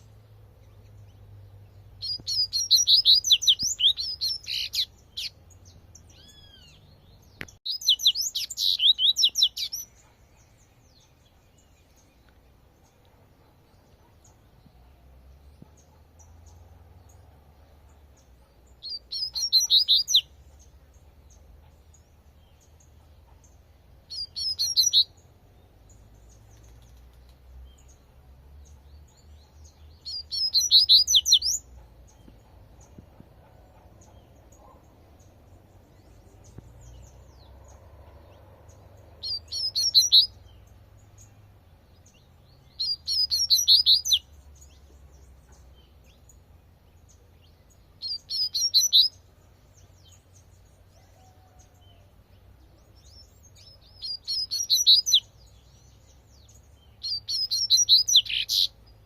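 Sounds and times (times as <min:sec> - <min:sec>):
bird singing high phrases: 0:00.6 - 0:59.0.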